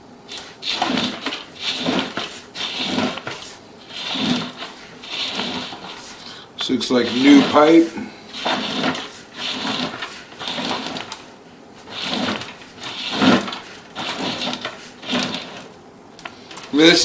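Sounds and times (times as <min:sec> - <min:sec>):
cable rubbing and rattling: 0:00.3 - 0:17.0.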